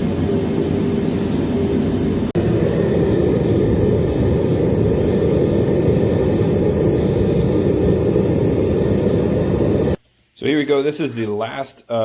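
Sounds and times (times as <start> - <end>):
furnace burner rushing: 0.0 - 10.0.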